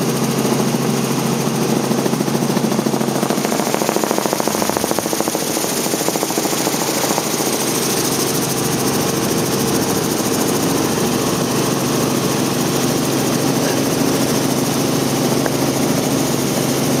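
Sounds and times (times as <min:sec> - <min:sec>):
helicopter engine and rotors droning: 0:00.0 - 0:17.0.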